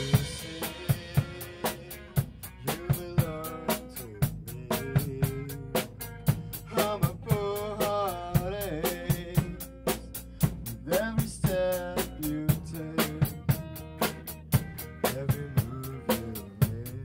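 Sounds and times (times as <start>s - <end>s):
young man singing: 0.0s - 13.8s, 15.0s - 17.0s
rock band playing live: 0.0s - 17.0s.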